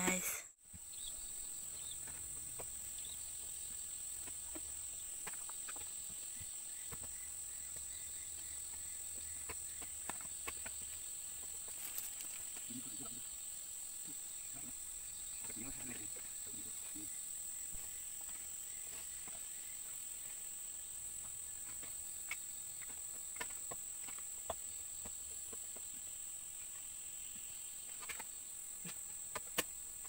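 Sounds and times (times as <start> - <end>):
chirring insects drone: 0.0 - 30.0.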